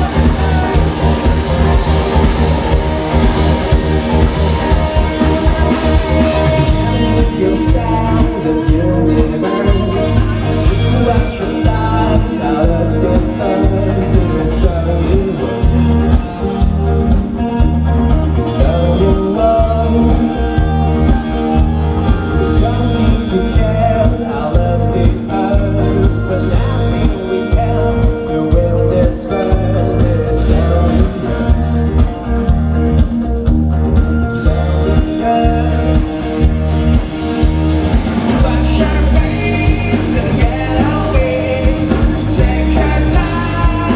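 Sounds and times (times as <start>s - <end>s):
person singing: 0.0s - 33.1s, 34.0s - 36.7s, 38.2s - 43.9s
bass guitar: 0.0s - 43.9s
driving drum beat: 0.0s - 43.9s
electric guitar: 0.0s - 43.9s.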